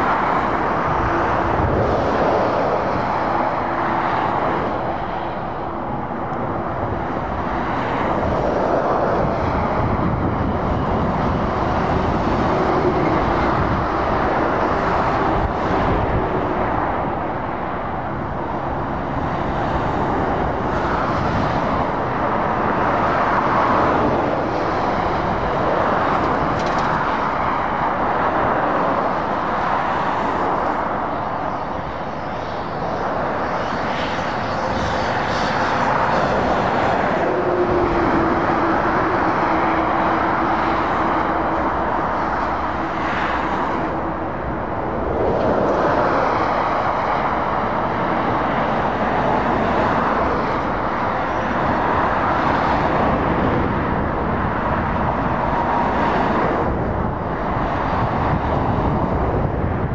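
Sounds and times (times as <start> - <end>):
diesel engines droning: 0.0 - 59.9.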